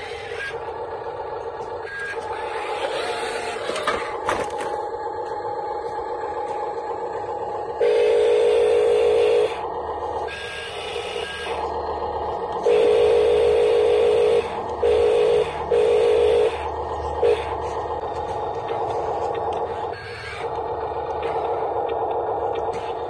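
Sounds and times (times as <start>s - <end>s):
electric motor whine bursts: 0.0s - 23.0s
faint steady whine: 0.0s - 23.0s.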